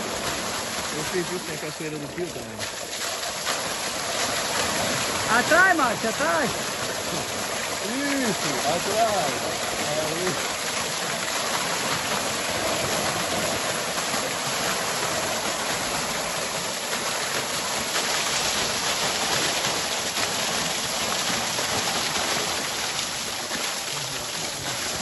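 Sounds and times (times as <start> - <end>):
small waterfall splashing on rocks: 0.0 - 25.0.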